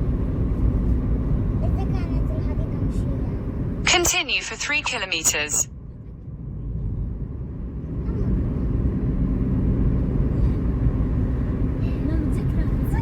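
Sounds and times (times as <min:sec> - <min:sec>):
car engine and tyre rumble: 0:00.0 - 0:03.9, 0:05.7 - 0:13.0.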